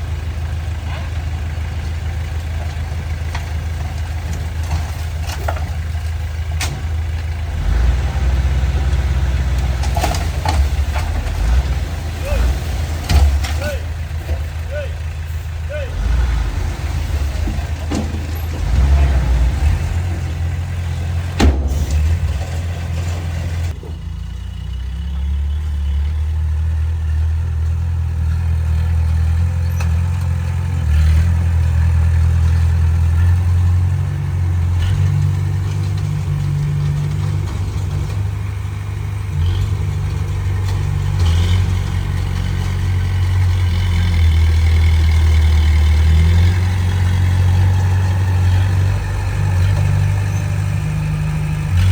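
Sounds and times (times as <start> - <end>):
heavy diesel engine working: 0.0 - 51.9.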